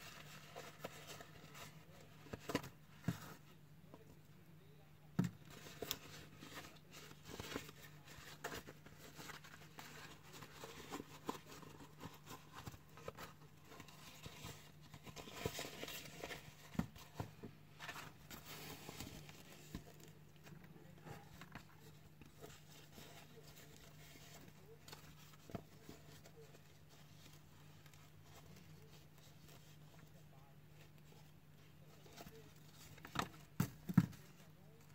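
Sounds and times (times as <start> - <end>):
rustling and crinkling of gaiter: 5.4 - 34.9.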